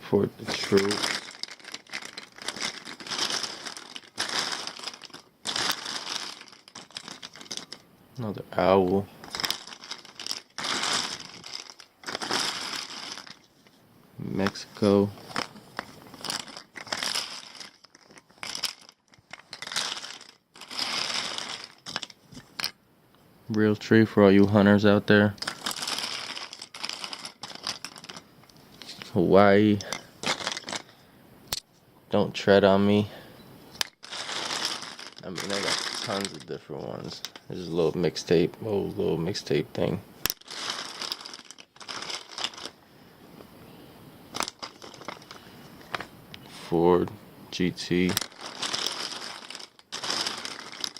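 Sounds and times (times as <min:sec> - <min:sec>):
plastic lighters rustling: 0:00.4 - 0:22.8, 0:25.4 - 0:29.1, 0:29.8 - 0:31.7, 0:33.7 - 0:38.4, 0:39.2 - 0:43.6, 0:44.3 - 0:46.5, 0:47.6 - 0:50.9.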